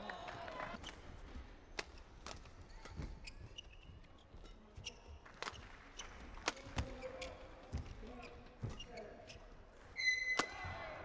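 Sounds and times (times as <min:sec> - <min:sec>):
shoes squeaking on court: 0:01.7 - 0:10.7.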